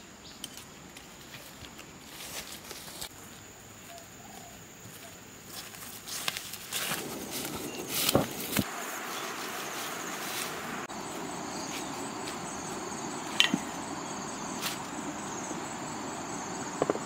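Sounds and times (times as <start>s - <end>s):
high insect drone: 0.0s - 17.0s
footsteps through rustling grass: 1.2s - 15.1s.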